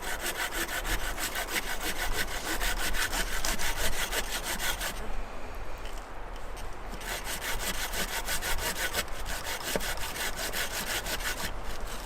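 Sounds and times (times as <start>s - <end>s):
hand saw cutting firewood: 0.0s - 5.1s, 6.9s - 12.0s.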